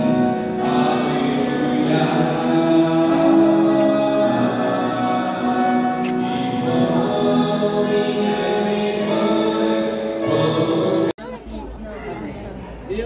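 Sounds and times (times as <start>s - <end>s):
several voices singing together: 0.0s - 11.1s.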